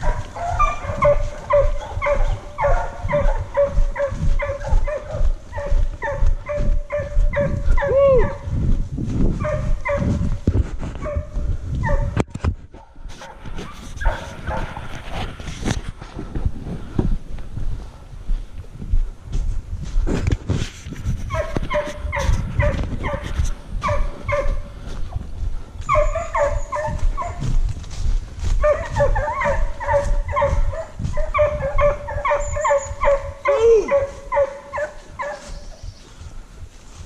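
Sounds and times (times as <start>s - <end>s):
hounds yelping and baying: 0.0s - 8.6s, 9.3s - 15.8s, 21.2s - 36.2s.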